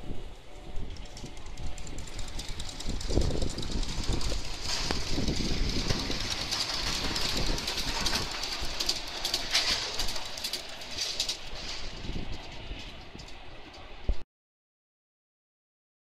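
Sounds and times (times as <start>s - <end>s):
miniature train running: 0.0s - 14.2s
wheels clicking over rail joints: 0.1s - 14.2s.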